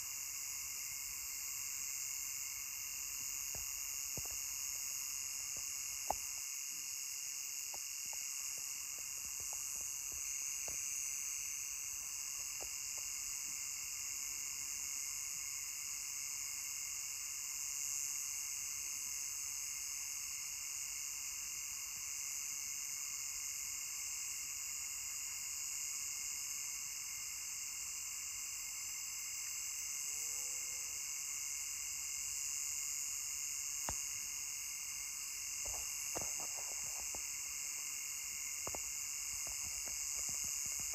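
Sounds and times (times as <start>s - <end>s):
night insects droning: 0.0s - 40.9s.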